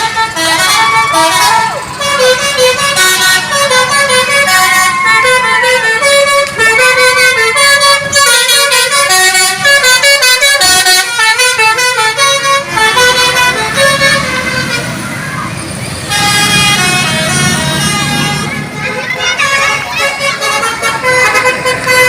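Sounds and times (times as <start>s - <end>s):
bus horn playing a tune: 0.0s - 15.0s, 16.0s - 22.0s.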